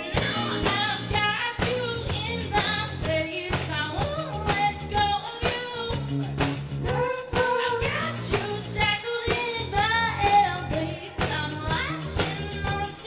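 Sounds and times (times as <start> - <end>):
drum kit beat: 0.0 - 13.0
pop song with singing: 0.0 - 13.0.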